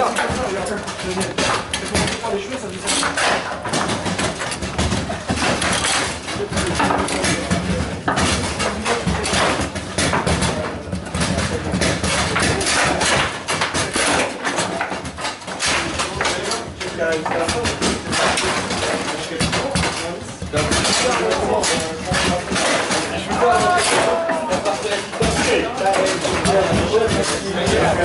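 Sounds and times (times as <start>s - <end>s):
rods knocking: 0.0s - 28.0s
table football balls clattering: 0.0s - 28.0s.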